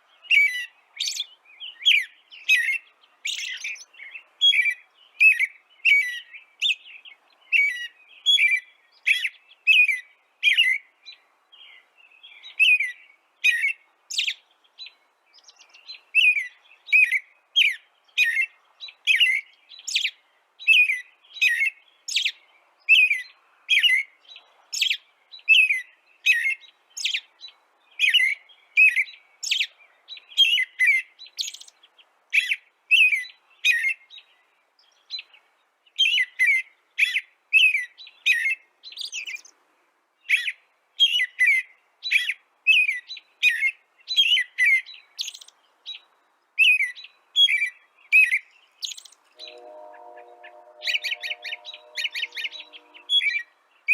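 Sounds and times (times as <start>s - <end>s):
small bird chirping: 0.2s - 35.4s, 36.0s - 39.6s, 40.3s - 49.6s.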